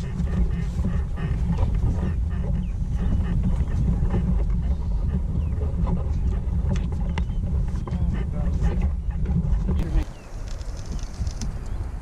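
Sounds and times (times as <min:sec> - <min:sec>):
boat motor rumbling: 0:00.0 - 0:12.0
wind on microphone: 0:00.0 - 0:12.0.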